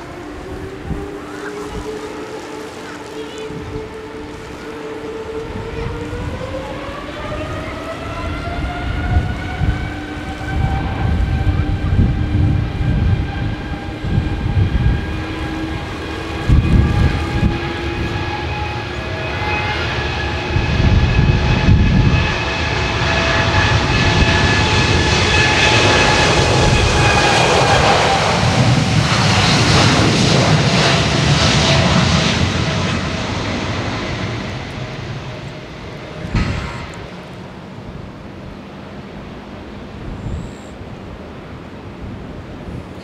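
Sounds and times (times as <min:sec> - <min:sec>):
airliner engines whining: 0:00.0 - 0:43.0.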